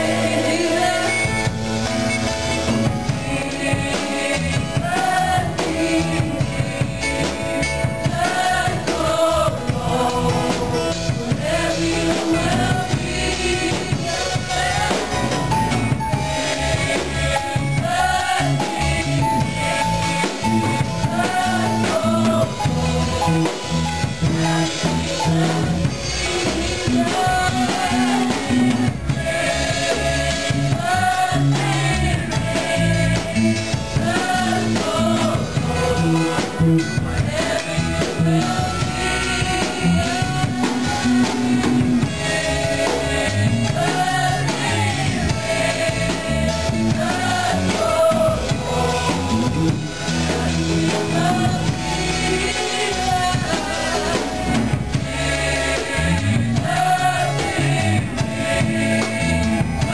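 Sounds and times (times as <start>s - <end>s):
band playing: 0.0s - 59.9s
choir singing: 0.0s - 59.9s
drum kit beat: 0.0s - 59.9s.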